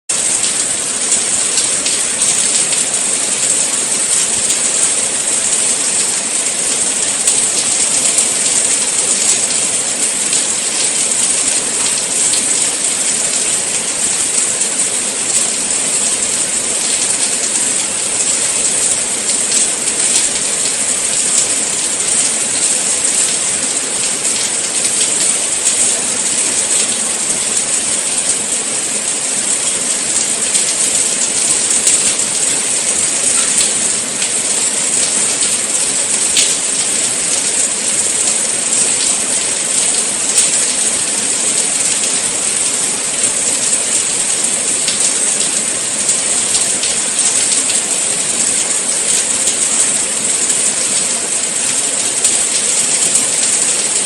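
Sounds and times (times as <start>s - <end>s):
steady rain falling: 0.1s - 54.0s.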